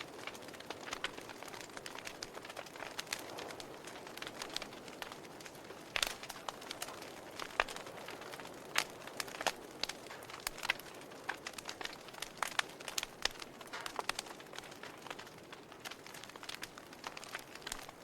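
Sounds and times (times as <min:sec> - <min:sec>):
fire pops and snaps: 0:00.0 - 0:18.0
wood fire crackling: 0:00.0 - 0:18.0.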